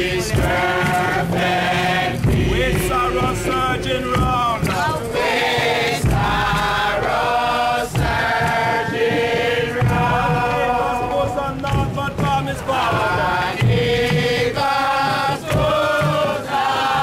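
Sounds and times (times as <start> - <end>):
crowd chanting in unison: 0.0 - 17.0.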